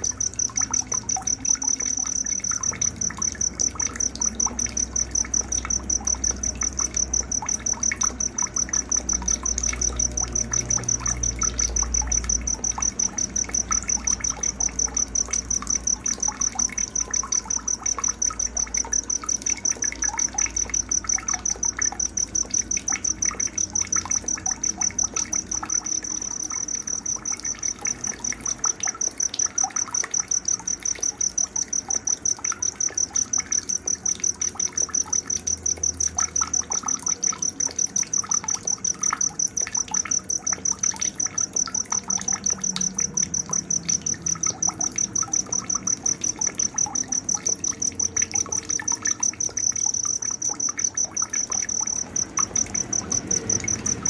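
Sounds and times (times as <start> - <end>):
insect chirping steadily: 0.0 - 54.0.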